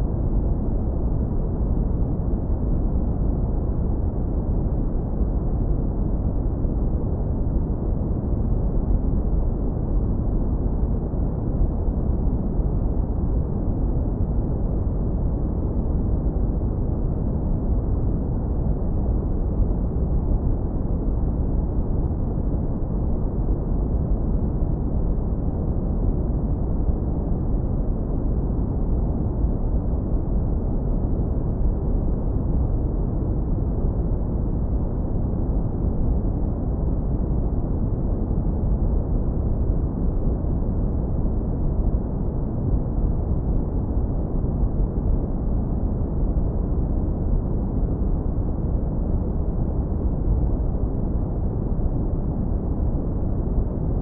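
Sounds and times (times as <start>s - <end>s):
deep brown noise rumble: 0.0s - 54.0s.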